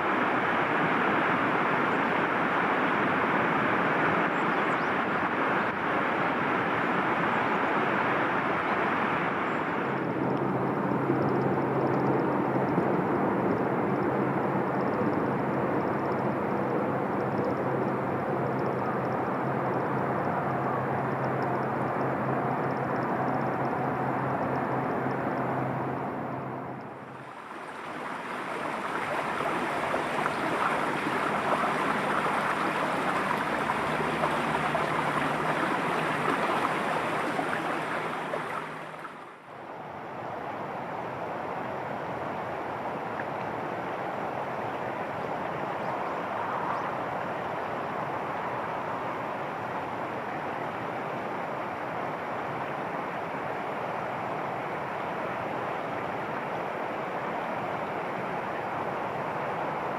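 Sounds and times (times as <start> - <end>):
running water rushing: 0.0 - 13.6, 14.2 - 59.9.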